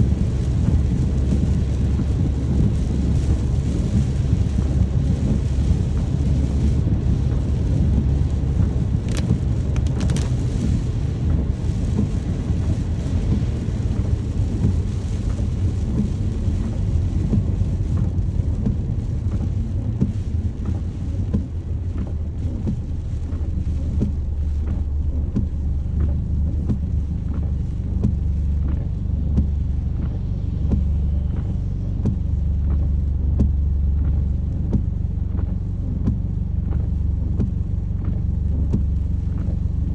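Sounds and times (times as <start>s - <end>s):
deep low rumble: 0.0s - 39.9s
steady rain: 0.0s - 39.9s.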